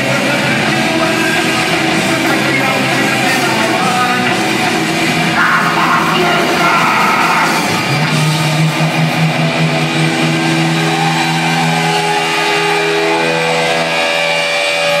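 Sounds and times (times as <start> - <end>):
guitar amplifier feedback: 0.0 - 15.0.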